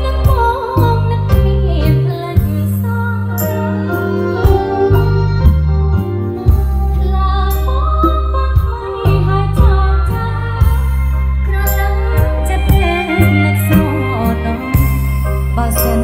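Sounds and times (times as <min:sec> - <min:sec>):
deep bass line: 0:00.0 - 0:16.0.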